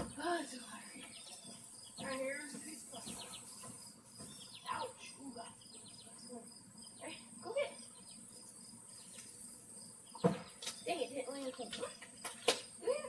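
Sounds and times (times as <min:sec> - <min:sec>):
high insect drone: 0:00.9 - 0:13.0.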